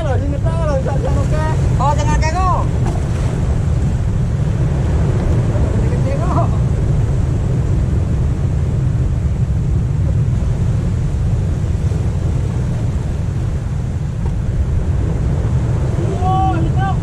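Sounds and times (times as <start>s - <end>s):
waves breaking on rocks: 0.0s - 17.0s
wind buffeting microphone: 0.0s - 17.0s.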